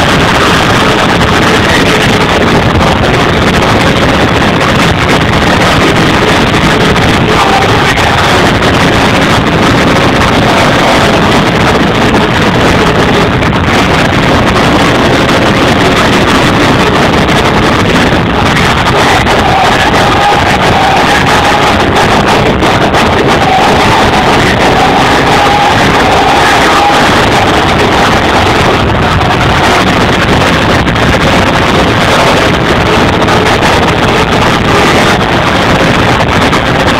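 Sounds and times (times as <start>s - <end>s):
distorted loud dance music: 0.0s - 36.9s.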